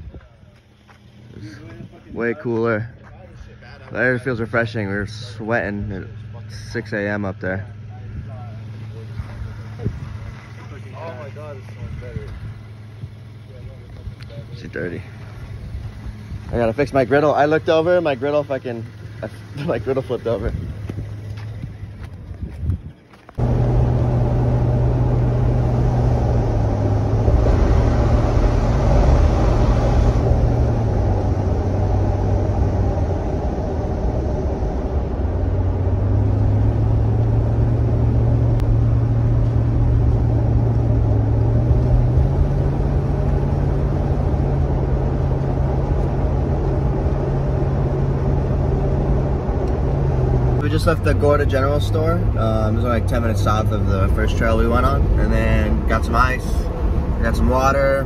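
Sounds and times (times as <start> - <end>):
pickup truck driving: 0.0 - 58.0.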